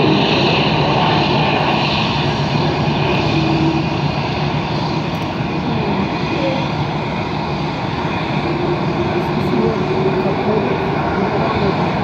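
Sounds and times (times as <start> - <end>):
jet airliner engines running: 0.0 - 12.0.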